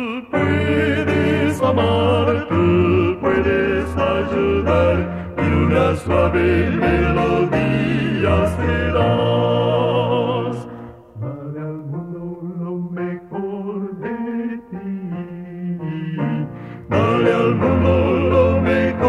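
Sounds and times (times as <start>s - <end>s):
vocal quartet singing in harmony: 0.0s - 19.0s.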